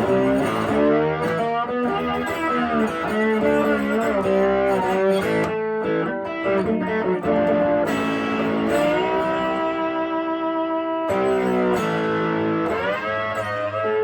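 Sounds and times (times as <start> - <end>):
slide electric guitar blues: 0.0 - 14.0.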